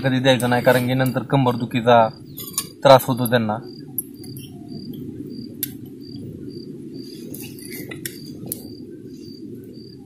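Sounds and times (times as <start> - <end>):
cricket chirping: 0.0 - 10.0
wind rumble on microphone: 0.0 - 10.0.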